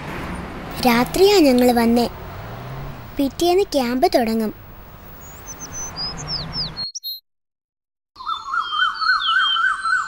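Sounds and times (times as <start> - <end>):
birds chirping: 1.0 - 7.2, 8.2 - 10.0.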